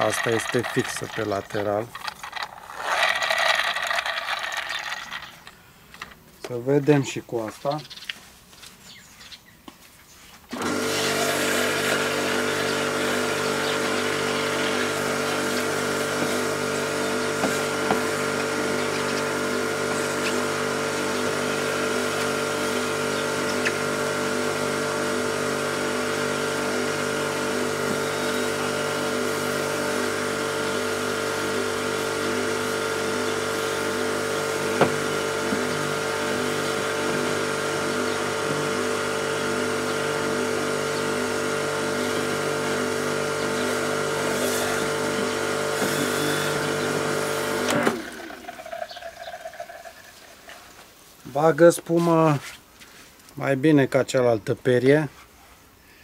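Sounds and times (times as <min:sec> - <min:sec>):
pressure washer motor humming: 0:00.0 - 0:05.5, 0:10.5 - 0:50.2.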